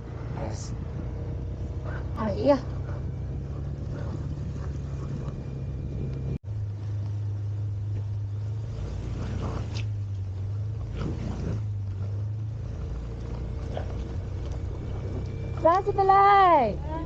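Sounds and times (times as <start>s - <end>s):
scooter engine humming: 0.0s - 17.0s.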